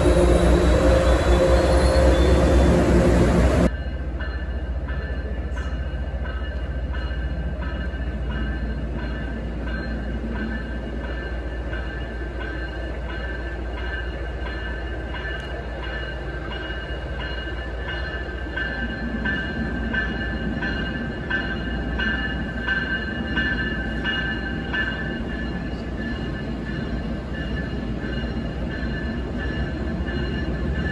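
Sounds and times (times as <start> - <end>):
loud train sound: 0.0 - 30.9
train rumbling into station: 0.0 - 30.9.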